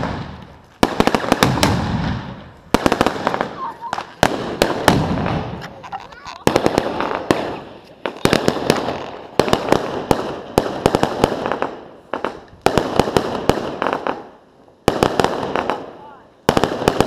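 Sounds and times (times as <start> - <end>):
firework cake cracks and bangs: 0.0 - 17.0.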